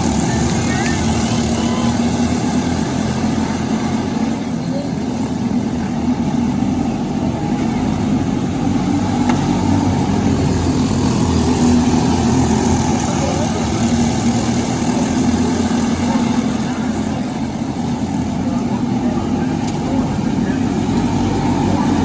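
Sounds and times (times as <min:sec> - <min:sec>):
kart engine running: 0:00.0 - 0:22.0.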